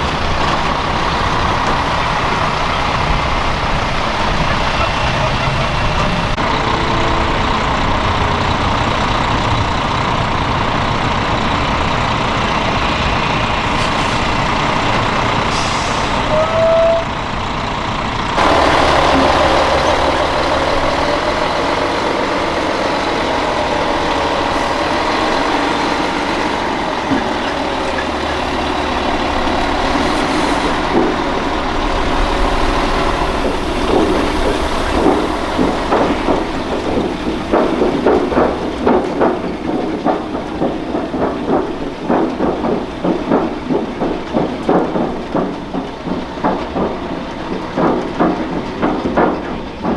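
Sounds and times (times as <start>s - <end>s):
heavy trucks engine running: 0.0s - 49.9s
road noise: 0.0s - 49.9s.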